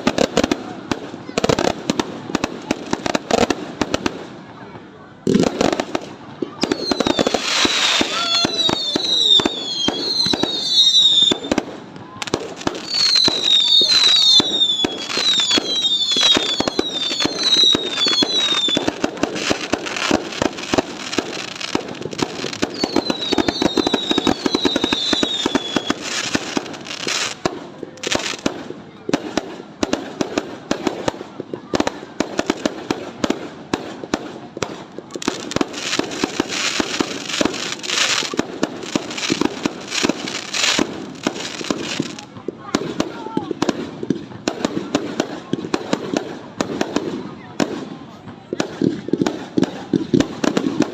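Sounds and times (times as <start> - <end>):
fireworks crackling and popping: 0.0 - 50.9.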